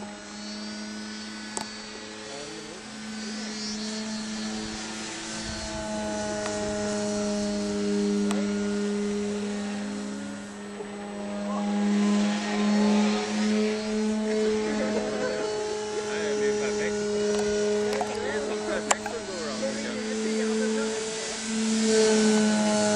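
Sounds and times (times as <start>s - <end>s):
model airplane motor whine: 0.0s - 22.9s.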